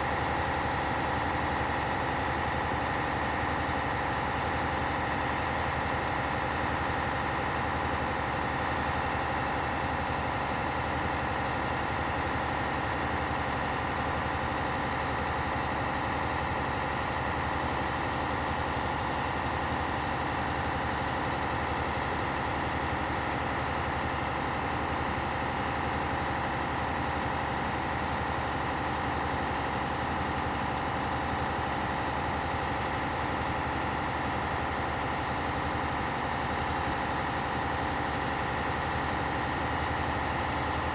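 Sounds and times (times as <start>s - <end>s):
fire truck diesel engine running: 0.0s - 40.9s.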